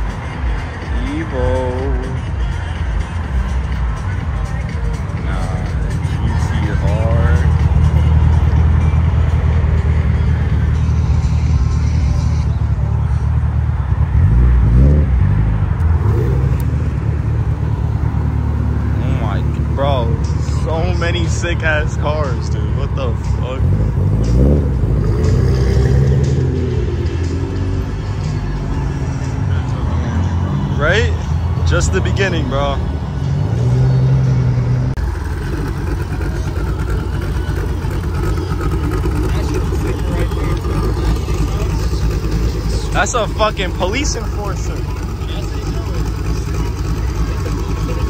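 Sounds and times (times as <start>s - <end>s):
engine revving: 0.0s - 48.0s
sports car engines rumbling: 0.0s - 48.0s.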